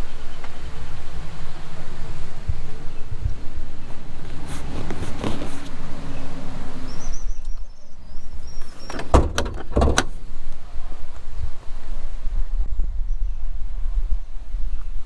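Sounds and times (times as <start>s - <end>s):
car engine and road rumble: 0.0s - 12.7s.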